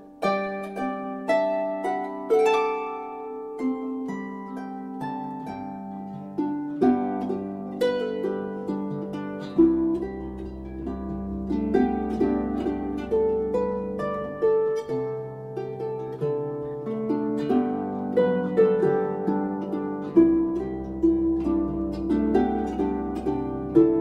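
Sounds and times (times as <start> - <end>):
harp melody: 0.0 - 24.0.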